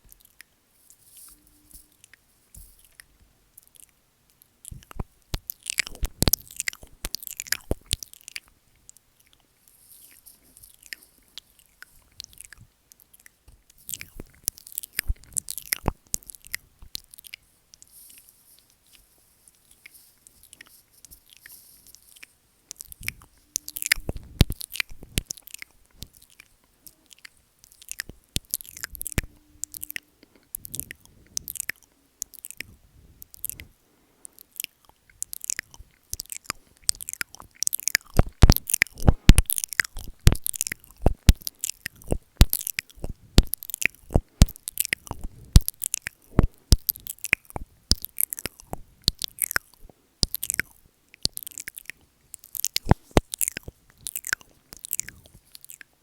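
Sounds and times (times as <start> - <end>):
wet mouth clicks and smacks: 2.8 - 9.5, 10.1 - 17.9, 19.8 - 33.7, 34.3 - 56.0.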